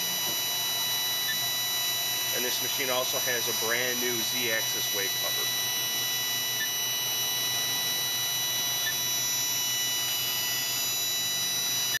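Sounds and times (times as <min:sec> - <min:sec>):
low machine hum: 0:00.0 - 0:12.0
machining center whine: 0:00.0 - 0:12.0.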